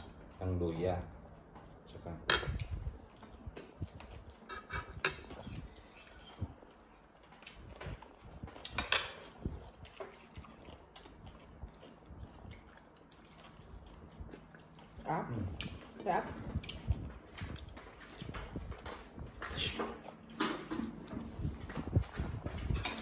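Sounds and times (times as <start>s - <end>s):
chewing and mouth noises: 0.0s - 23.0s.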